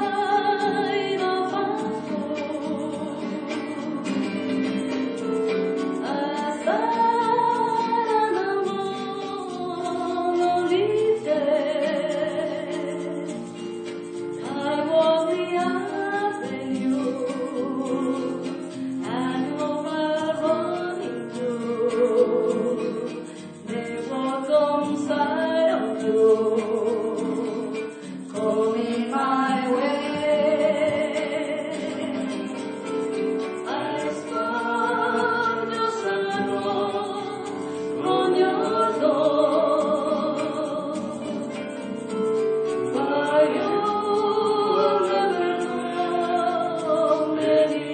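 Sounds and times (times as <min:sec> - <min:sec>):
instrumental accompaniment: 0:00.0 - 0:47.9.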